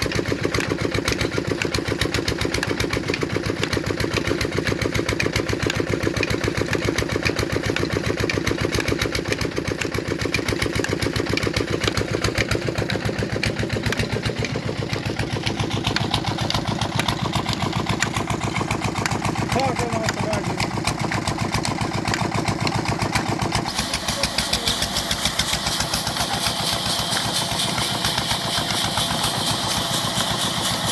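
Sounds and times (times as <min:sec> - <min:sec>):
stationary diesel engine running: 0:00.0 - 0:30.9.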